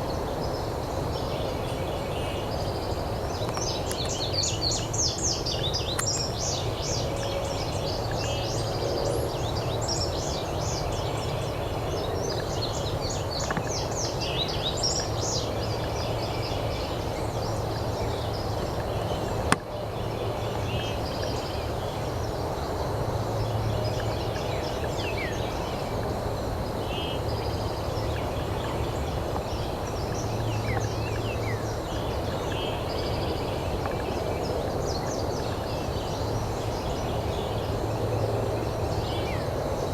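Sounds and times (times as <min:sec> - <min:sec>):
outdoor background noise: 0:00.0 - 0:39.9
songbirds chirping and trilling: 0:00.0 - 0:39.9.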